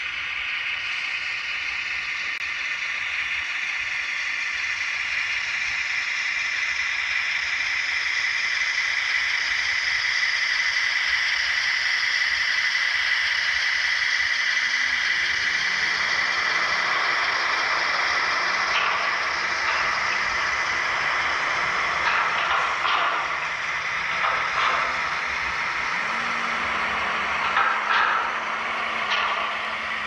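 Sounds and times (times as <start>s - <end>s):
model train whirring: 0.0s - 30.0s.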